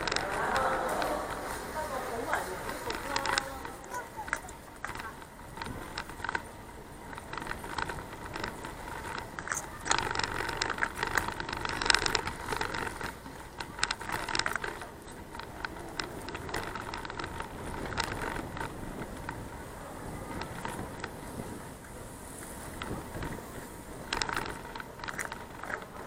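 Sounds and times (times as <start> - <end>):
bicycle rattling and clicking: 0.0 - 26.0.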